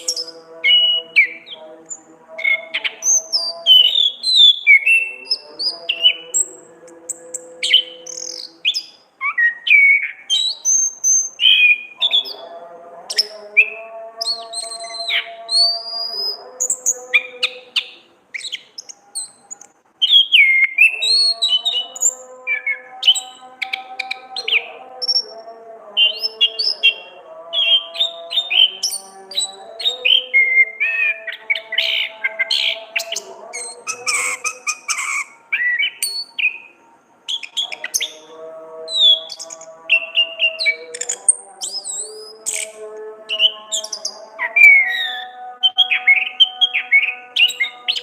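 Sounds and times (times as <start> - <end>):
thrush singing: 0.0 - 48.0.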